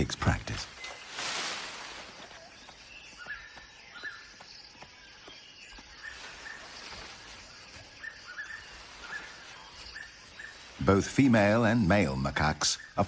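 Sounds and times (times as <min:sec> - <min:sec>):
bird chirps: 0:00.4 - 0:13.0.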